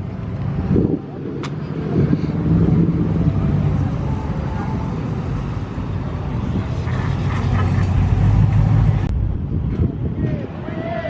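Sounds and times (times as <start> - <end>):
car engine humming: 0.0 - 9.7.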